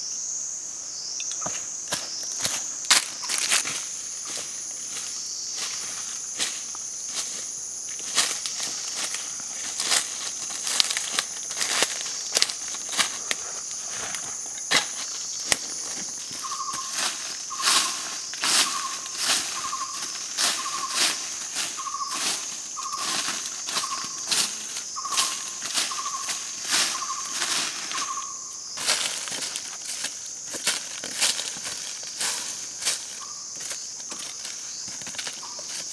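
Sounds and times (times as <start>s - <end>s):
high-pitched insect drone: 0.0s - 35.9s
dry leaves crunching underfoot: 1.3s - 35.9s.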